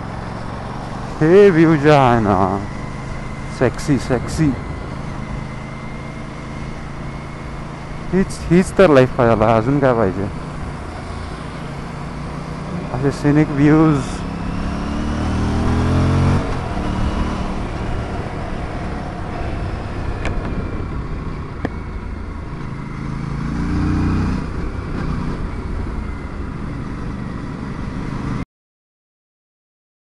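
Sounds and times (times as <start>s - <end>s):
motorcycle engine revving: 0.0s - 28.4s.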